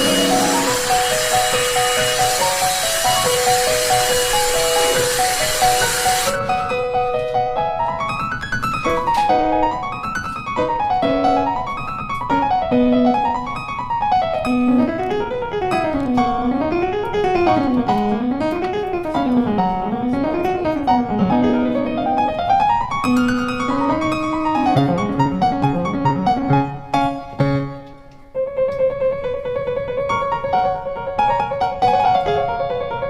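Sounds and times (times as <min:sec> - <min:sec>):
background piano music: 0:00.0 - 0:33.0.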